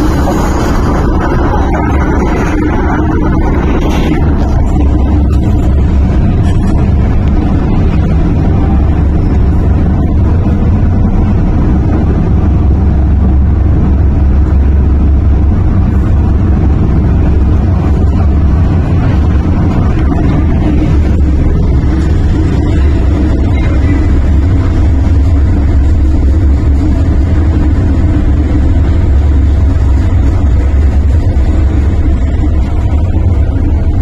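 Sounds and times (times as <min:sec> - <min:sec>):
train running rumble: 0:00.0 - 0:34.0.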